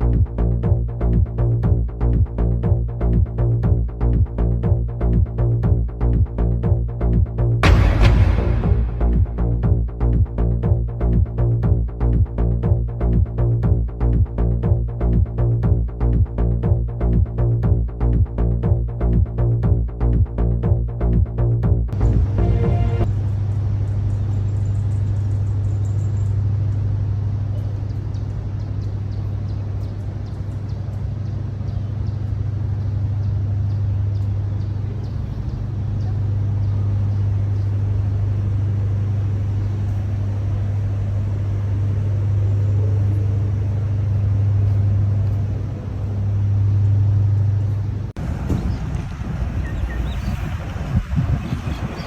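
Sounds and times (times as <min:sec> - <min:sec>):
vehicle rumble: 0:00.0 - 0:24.6, 0:26.1 - 0:52.0.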